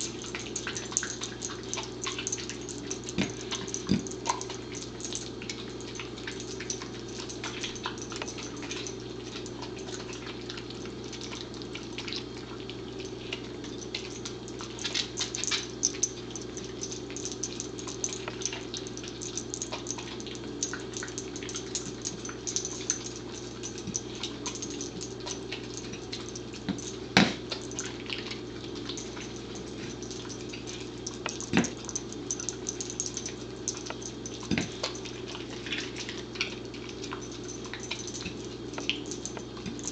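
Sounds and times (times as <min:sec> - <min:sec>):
dog eating and licking: 0:00.0 - 0:39.9.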